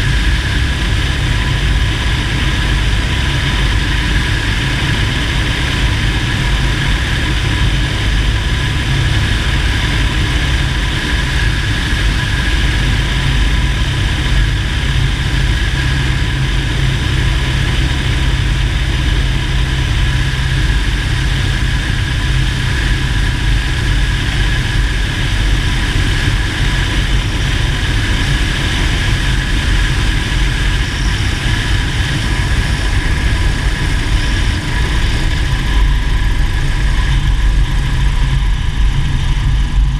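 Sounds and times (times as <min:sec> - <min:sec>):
faint steady whine: 0:00.0 - 0:39.9
light aircraft engine drone: 0:00.0 - 0:39.9.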